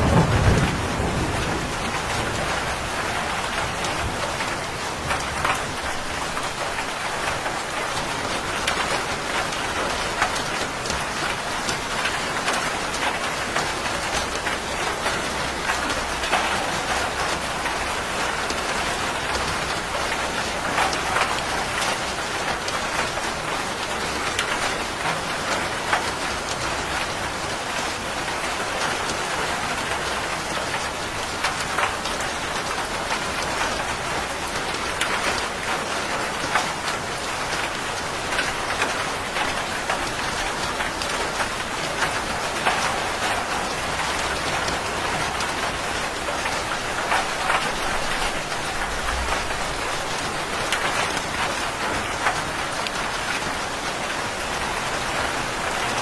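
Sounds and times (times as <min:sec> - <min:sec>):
heavy rain on hard surface: 0:00.0 - 0:56.0.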